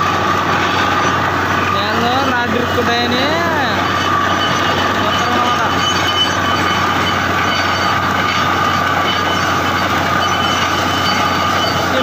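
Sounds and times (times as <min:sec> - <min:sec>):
drilling rig mechanical din: 0:00.0 - 0:12.0.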